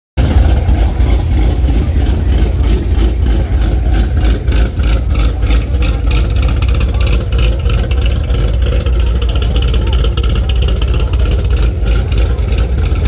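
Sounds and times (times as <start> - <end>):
car engine idling with loping beat: 0.2 - 13.0.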